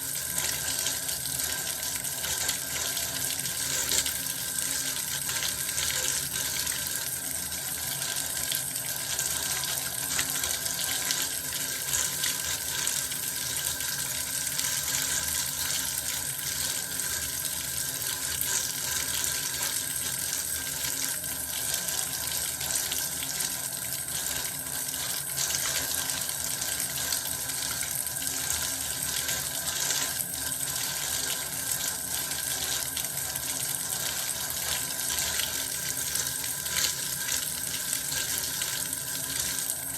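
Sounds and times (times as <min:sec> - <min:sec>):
bath water running from tap: 0:00.0 - 0:39.9.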